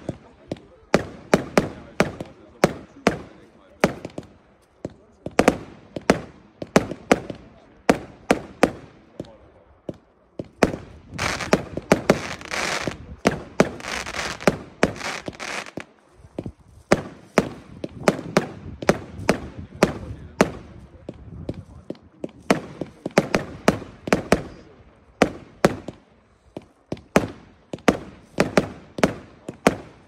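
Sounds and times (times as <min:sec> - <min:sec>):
fireworks bangs: 0:00.0 - 0:30.0
fireworks rushing noise: 0:00.0 - 0:30.0.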